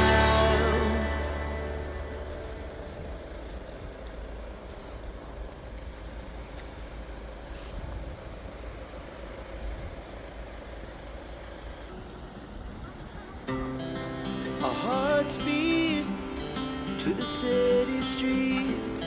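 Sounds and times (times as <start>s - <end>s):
faint hiss: 0.0s - 19.0s
low rumbling outdoor noise: 0.0s - 19.0s.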